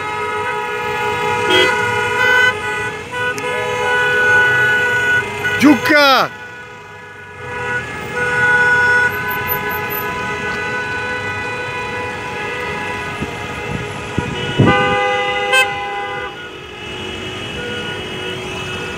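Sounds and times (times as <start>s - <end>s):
car horns honking: 0.0s - 18.9s.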